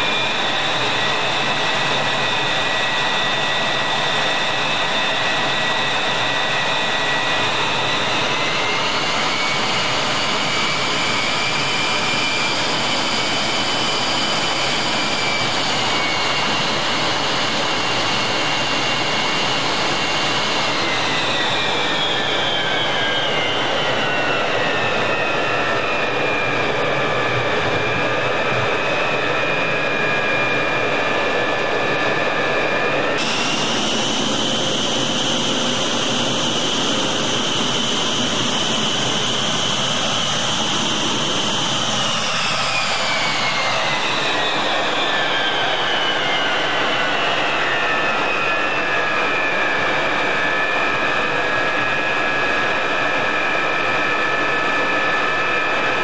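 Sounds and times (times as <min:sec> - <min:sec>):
jet engine roar with whine: 0:00.0 - 0:56.0.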